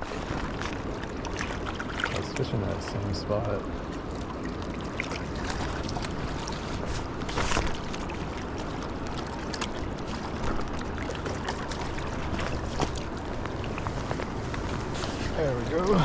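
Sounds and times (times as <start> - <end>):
fast-flowing river water: 0.0 - 16.0.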